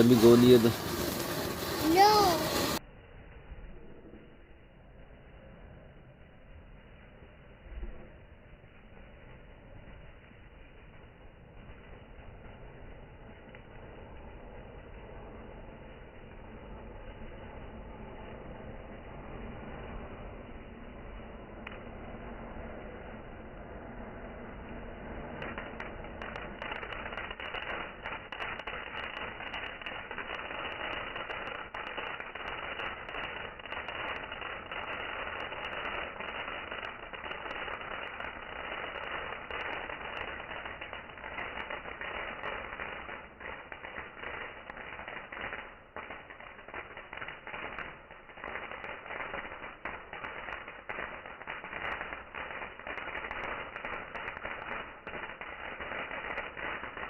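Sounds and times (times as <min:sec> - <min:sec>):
fireworks popping and crackling: 0:00.0 - 0:02.9, 0:07.8 - 0:57.0.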